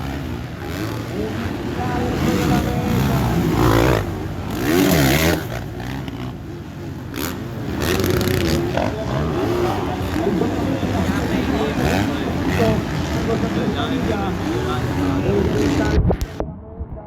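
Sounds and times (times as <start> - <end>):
motorcycle engines revving: 0.0 - 16.4.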